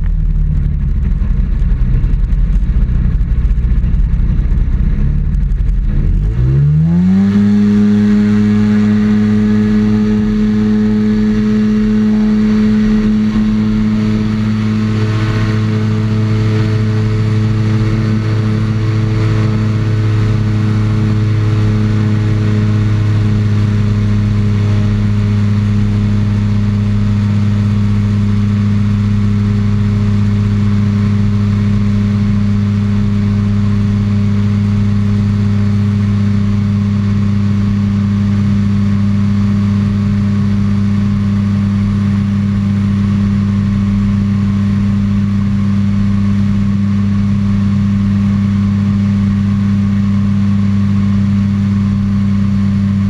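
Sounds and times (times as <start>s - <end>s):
aircraft engine and propeller drone: 0.0s - 53.0s
higher engine tones: 0.0s - 53.0s.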